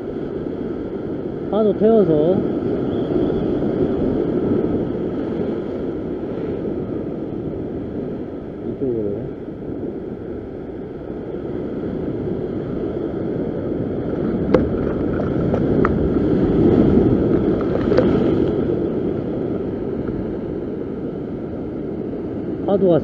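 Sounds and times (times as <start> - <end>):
ocean waves breaking on rocks: 0.0 - 8.6, 9.6 - 23.0.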